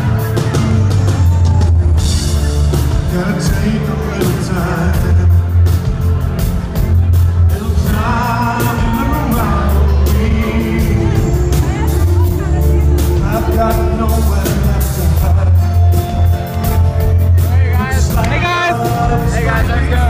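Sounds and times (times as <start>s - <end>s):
drum beats: 0.0s - 20.0s
rock band playing live: 0.0s - 20.0s
man singing: 2.7s - 6.2s, 7.3s - 20.0s.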